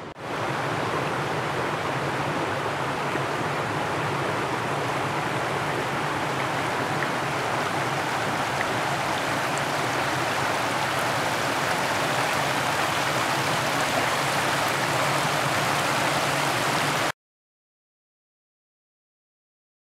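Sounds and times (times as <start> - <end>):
stream rippling over stones: 0.1 - 17.1.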